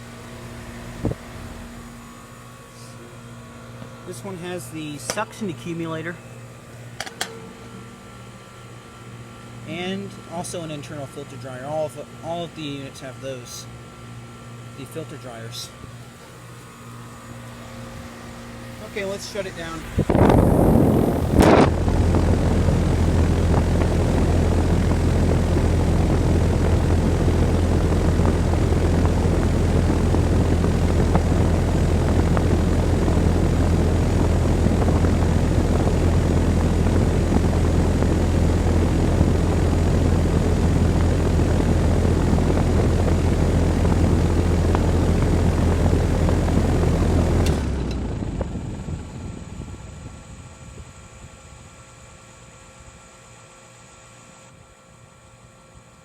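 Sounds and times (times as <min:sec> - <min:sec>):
compressor humming: 0:00.0 - 0:56.0
condenser fan rushing: 0:00.0 - 0:56.0.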